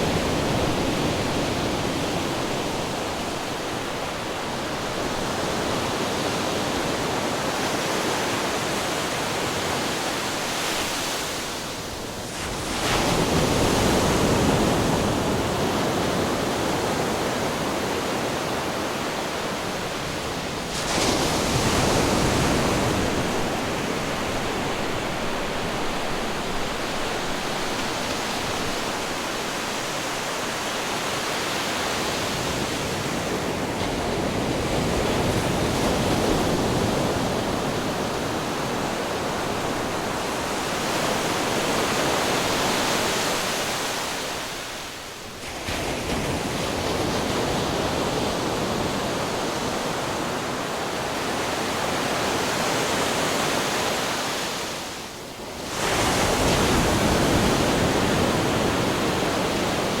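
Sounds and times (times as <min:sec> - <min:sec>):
ocean waves crashing on rocks: 0:00.0 - 1:00.0.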